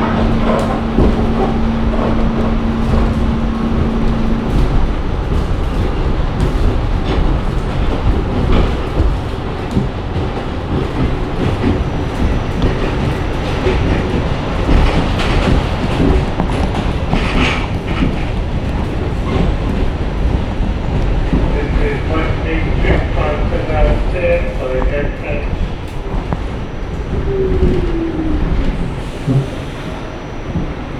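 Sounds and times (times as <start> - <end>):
wheels clicking over rail joints: 0.0 - 29.7
subway train rolling: 0.0 - 30.9.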